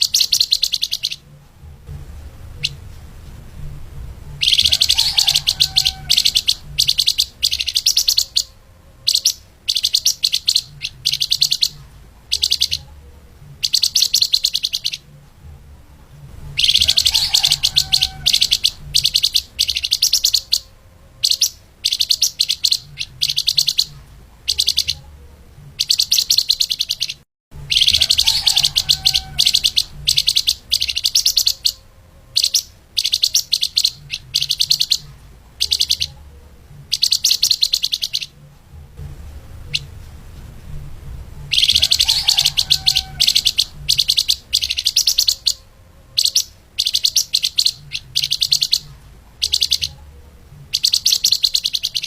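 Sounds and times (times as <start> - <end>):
songbird singing high-pitched song: 0.0 - 38.5, 41.3 - 52.0
faint low hum: 0.0 - 52.0.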